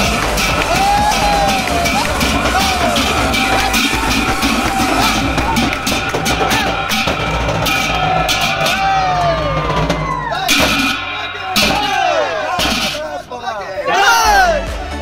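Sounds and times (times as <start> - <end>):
large drum beaten with sticks: 0.0 - 13.5
men shouting and cheering: 0.0 - 15.0.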